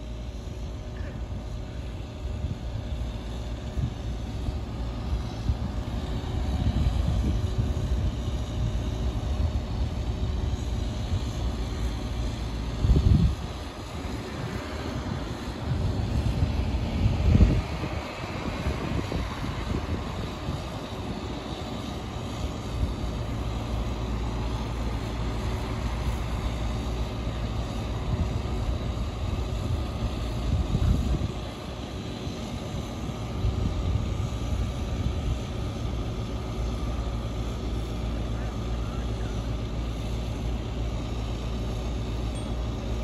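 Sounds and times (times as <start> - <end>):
engine rumble: 0.0 - 43.0.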